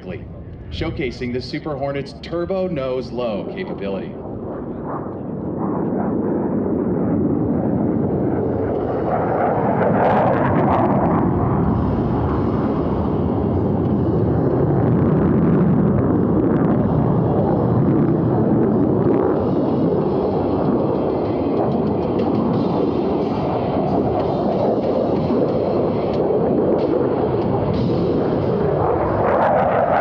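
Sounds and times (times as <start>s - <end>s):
jet engine crackling: 0.0s - 30.0s
jet engine roar: 0.0s - 30.0s.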